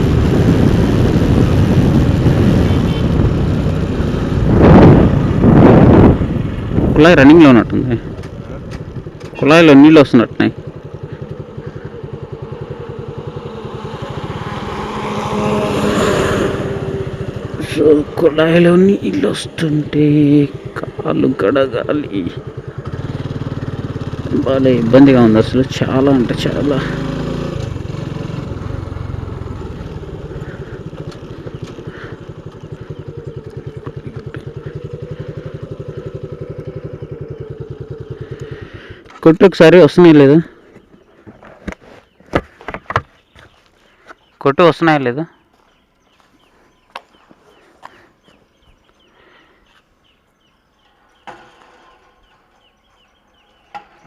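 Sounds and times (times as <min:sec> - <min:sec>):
motorcycle engine running: 0:00.0 - 0:44.3, 0:45.5 - 0:54.0.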